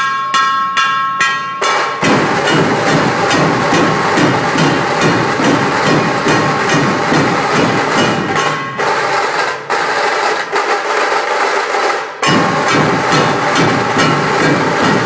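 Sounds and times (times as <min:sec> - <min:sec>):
barrel drums beating: 0:01.2 - 0:15.0
sharp snare-like drumming: 0:01.6 - 0:15.0.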